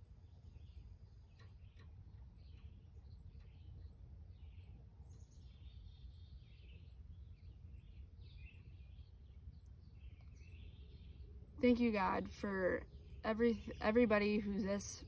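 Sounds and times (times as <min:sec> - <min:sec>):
faint birds chirping: 0:00.0 - 0:15.0
low steady rumble: 0:00.0 - 0:15.0.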